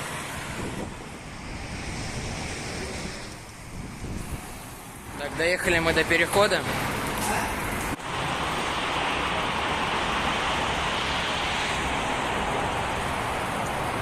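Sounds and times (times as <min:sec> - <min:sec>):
road traffic rushing: 0:00.0 - 0:14.0
wind: 0:00.0 - 0:14.0.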